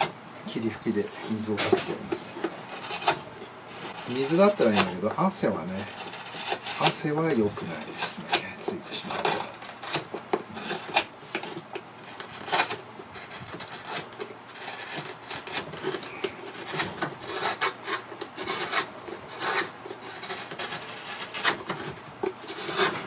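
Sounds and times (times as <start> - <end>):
gouge scraping wood: 0.0 - 23.0.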